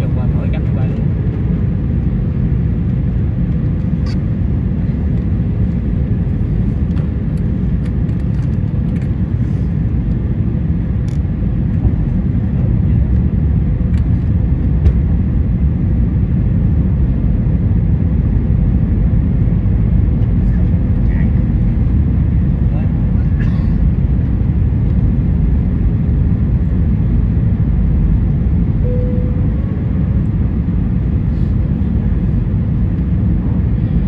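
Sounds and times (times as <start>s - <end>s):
jet engines roaring in cabin: 0.0s - 34.0s.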